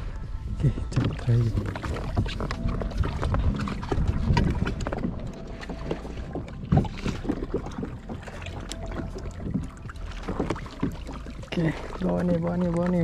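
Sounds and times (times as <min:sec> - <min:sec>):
wind on microphone: 0:00.0 - 0:10.7.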